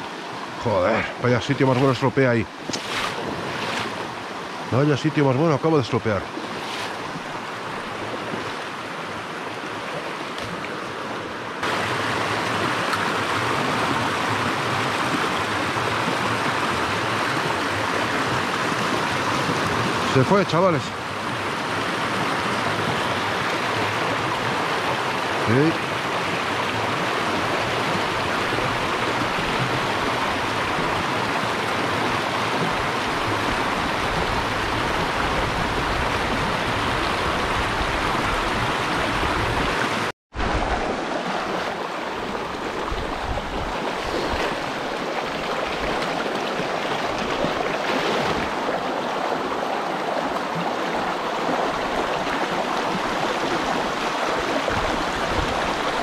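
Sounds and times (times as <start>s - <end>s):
stream rushing water: 0.0s - 56.0s.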